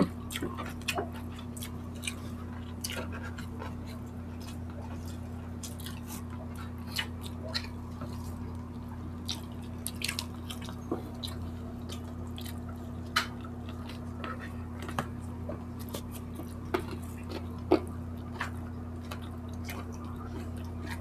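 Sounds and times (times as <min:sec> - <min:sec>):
wet chewing and lip-smacking: 0:00.0 - 0:21.0.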